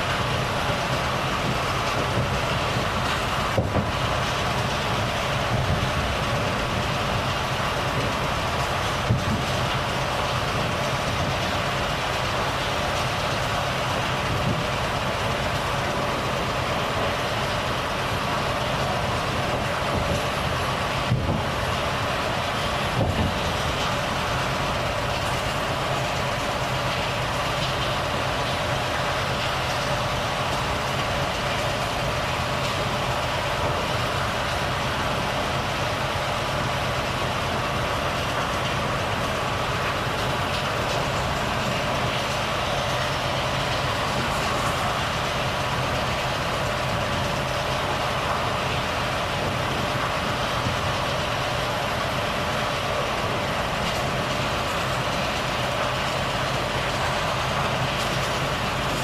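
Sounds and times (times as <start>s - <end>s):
road and tyre noise: 0.0s - 59.0s
truck diesel engine running: 0.0s - 59.0s.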